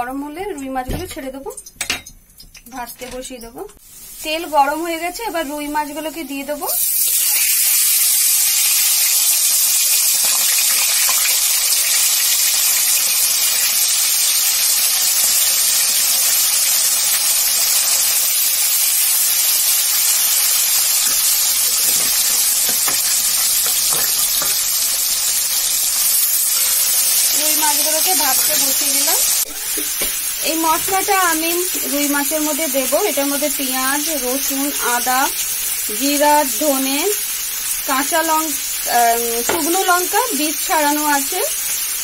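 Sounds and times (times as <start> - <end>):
fish frying in hot oil: 3.5 - 42.0.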